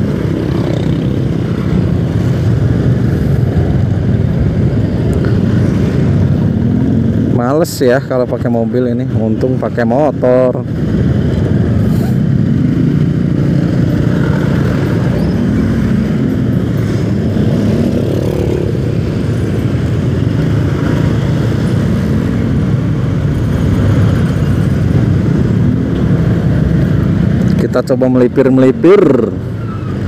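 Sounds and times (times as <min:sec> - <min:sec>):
surrounding traffic engines: 0:00.0 - 0:30.0.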